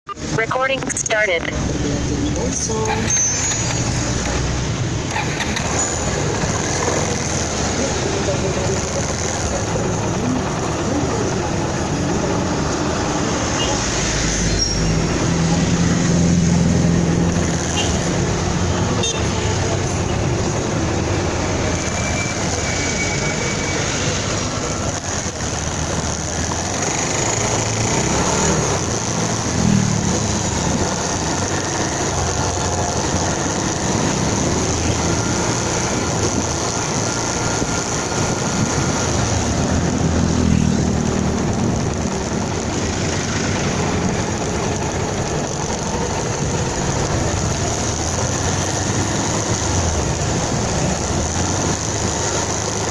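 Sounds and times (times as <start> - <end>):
traffic: 0.0 - 52.9
motorcycle engine: 1.4 - 52.9.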